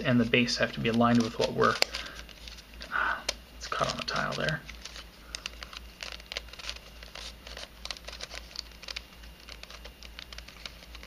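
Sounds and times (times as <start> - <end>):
puzzle pieces clicking and scraping: 0.8 - 2.6, 3.7 - 11.0.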